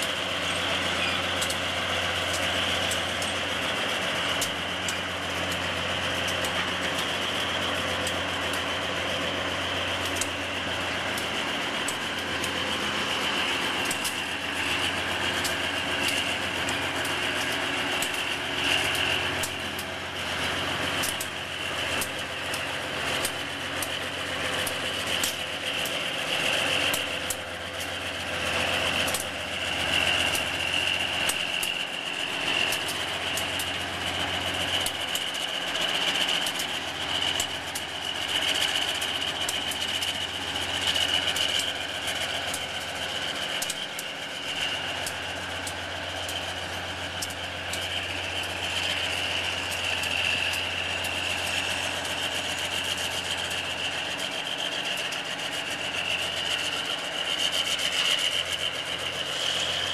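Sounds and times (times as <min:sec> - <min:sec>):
locomotive engine hum: 0:00.0 - 0:59.9.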